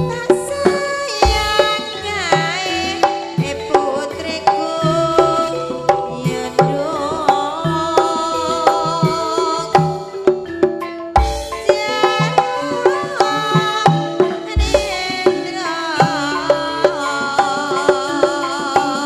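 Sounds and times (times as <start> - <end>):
hand drum strokes: 0.0 - 19.0
live band music: 0.0 - 19.0.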